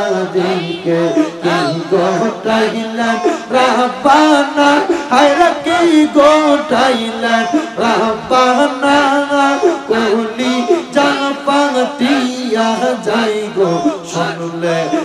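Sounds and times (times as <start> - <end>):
man singing devotional song: 0.0 - 15.0
men's voices singing along: 0.0 - 15.0.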